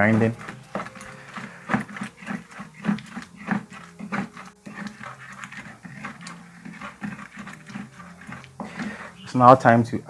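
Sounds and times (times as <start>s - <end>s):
pestle grinding in a bowl: 0.0s - 9.3s.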